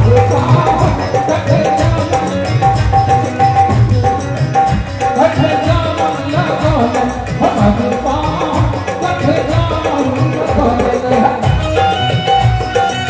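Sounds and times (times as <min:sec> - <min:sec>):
hand drum steady beat: 0:00.0 - 0:13.0.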